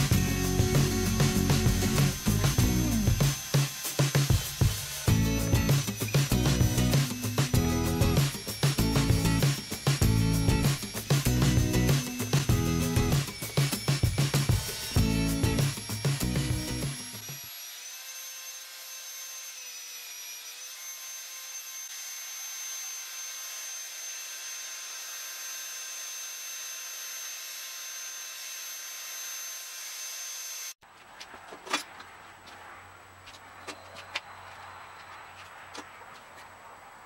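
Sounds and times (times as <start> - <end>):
belt sander whining: 0.0 - 30.8.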